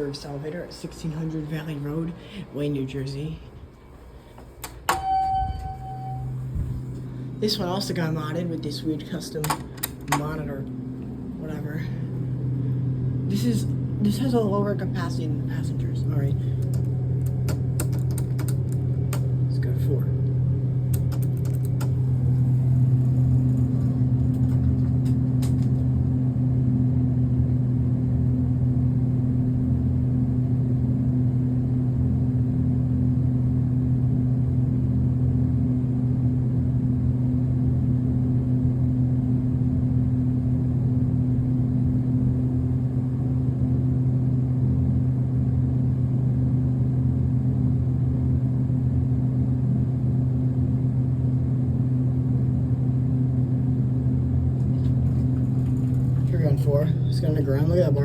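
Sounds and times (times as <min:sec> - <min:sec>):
elevator hum and rumble: 0:00.0 - 0:58.0.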